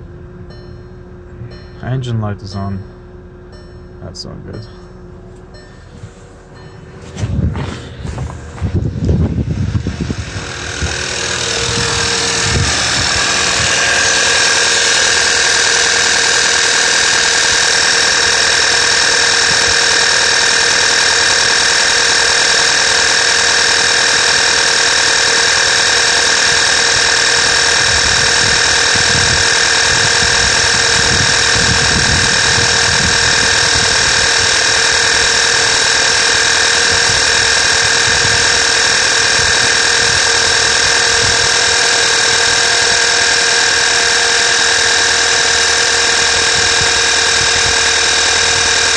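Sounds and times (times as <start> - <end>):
car engine idling with whine: 0.0 - 48.9.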